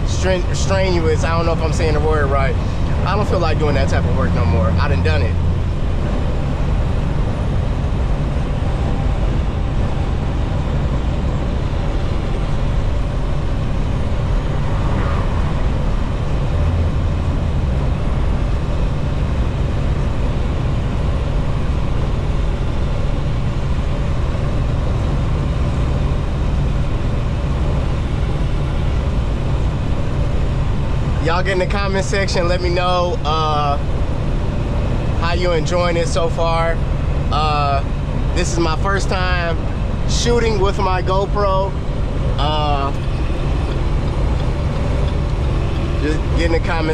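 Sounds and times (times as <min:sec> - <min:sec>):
truck engine drone and road rumble: 0:00.0 - 0:46.9.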